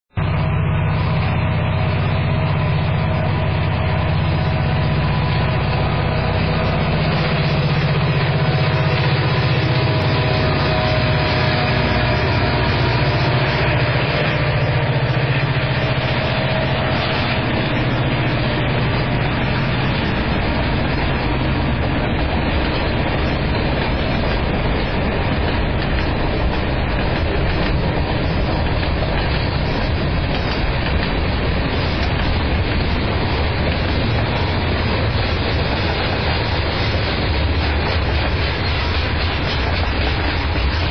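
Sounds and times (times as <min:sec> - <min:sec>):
diesel locomotive drone: 0:00.0 - 0:40.9
train wheels rumbling on rails: 0:00.1 - 0:40.9.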